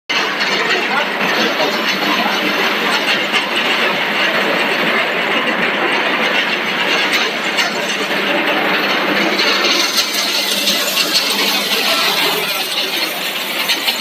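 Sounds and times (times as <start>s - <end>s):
machinery running steadily: 0.1s - 14.0s.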